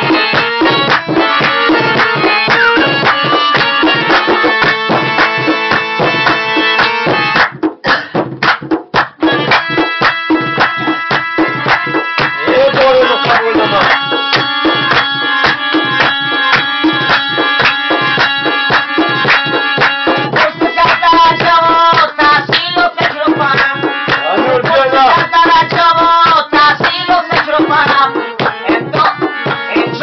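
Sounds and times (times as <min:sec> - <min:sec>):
harmonium melody: 0:00.0 - 0:07.8, 0:09.2 - 0:30.0
fast hand drum strokes: 0:00.0 - 0:30.0.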